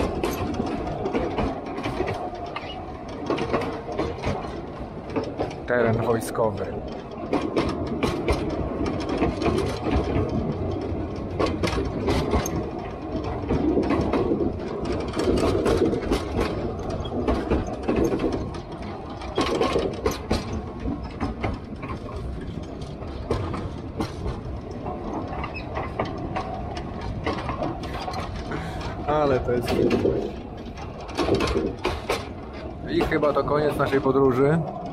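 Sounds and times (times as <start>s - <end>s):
train rumbling on track: 0.0s - 34.9s
wheels clicking and rattling: 0.0s - 34.9s.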